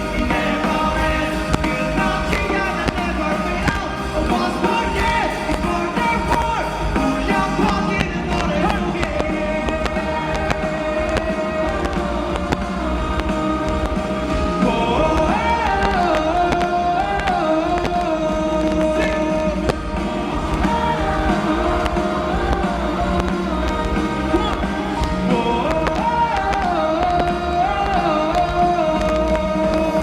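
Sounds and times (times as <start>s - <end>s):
live pop-rock band: 0.0s - 30.0s.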